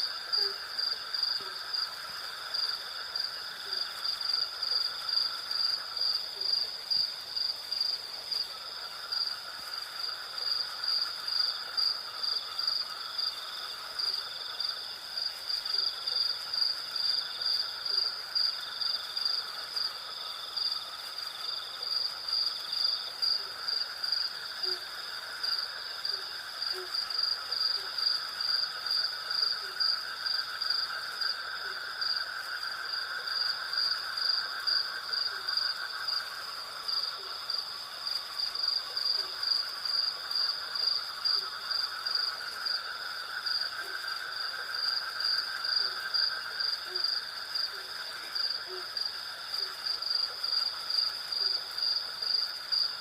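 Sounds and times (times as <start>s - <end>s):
crickets and cicadas trilling: 0.0s - 53.0s.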